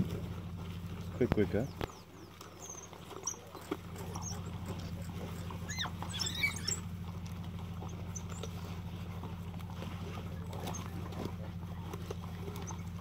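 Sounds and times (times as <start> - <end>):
steady low hum: 0.0 - 13.0
wild dogs twittering and squealing: 1.0 - 13.0.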